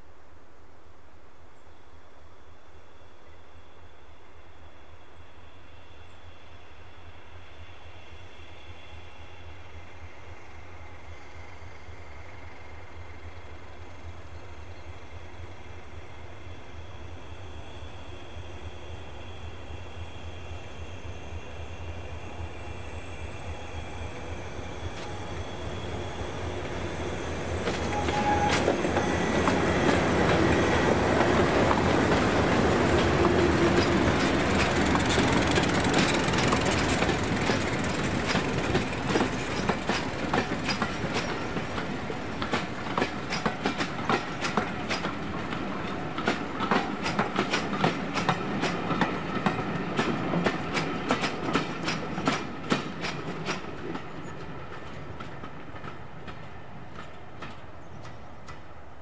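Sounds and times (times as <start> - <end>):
passenger train passing: 2.0 - 59.0.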